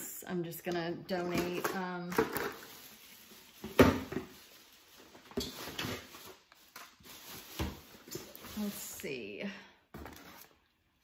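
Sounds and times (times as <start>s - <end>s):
rustling of items handled: 0.7s - 10.7s.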